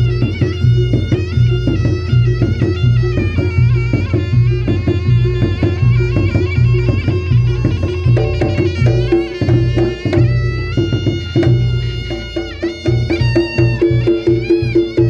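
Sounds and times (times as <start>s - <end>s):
drums and gongs: 0.0s - 15.0s
shrill reed trumpet melody: 0.0s - 15.0s.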